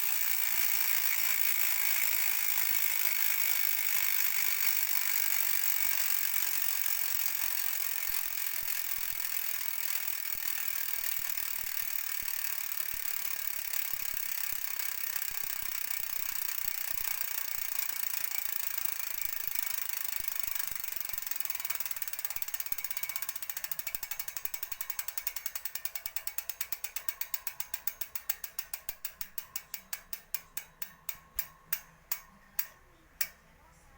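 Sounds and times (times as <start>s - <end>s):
bicycle hub ratchet clicking: 0.0s - 33.4s.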